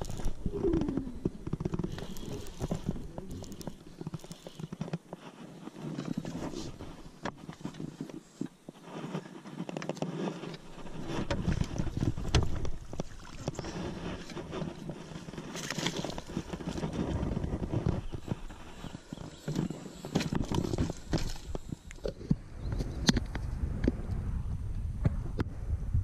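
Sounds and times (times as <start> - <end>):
water noise: 0.0 - 8.5, 10.2 - 24.0
low rumbling handling noise: 0.0 - 8.7, 9.9 - 25.6
fishing gear clicks and knocks: 0.0 - 22.3
wind: 0.0 - 26.0.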